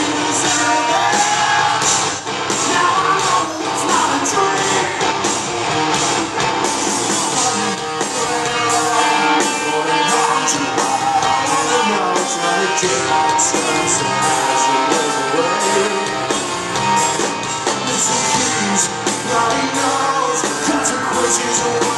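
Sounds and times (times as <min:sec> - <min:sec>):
man singing lead vocal: 0:00.0 - 0:05.2, 0:07.2 - 0:16.5, 0:17.2 - 0:21.9
drums: 0:00.0 - 0:21.9
electric guitars: 0:00.0 - 0:21.9.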